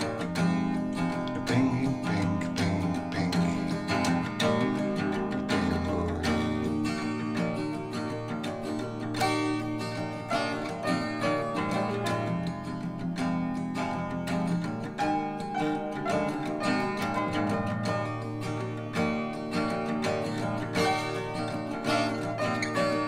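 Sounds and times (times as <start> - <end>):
acoustic guitar music over loudspeakers: 0.0 - 23.0.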